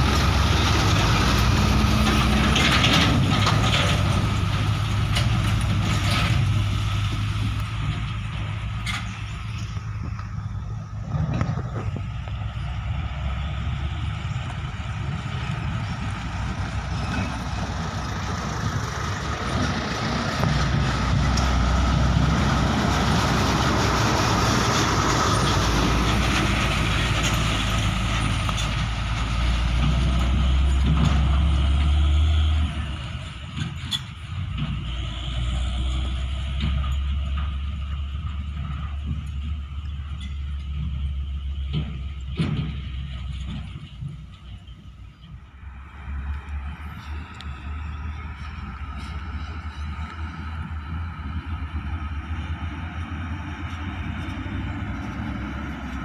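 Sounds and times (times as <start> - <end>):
diesel truck passing on gravel: 0.0 - 56.0.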